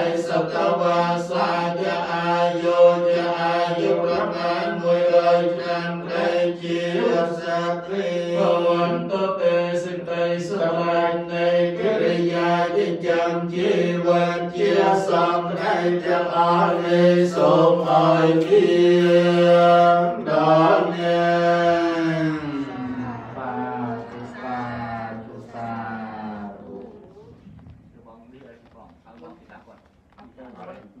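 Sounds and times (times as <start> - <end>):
monks chanting in low monotone: 0.0 - 27.7.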